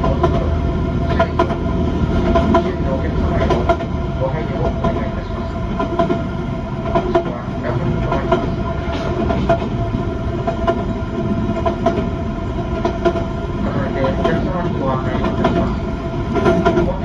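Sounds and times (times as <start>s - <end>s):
train running rumble: 0.0s - 17.0s
wheels clicking on track: 0.0s - 17.0s.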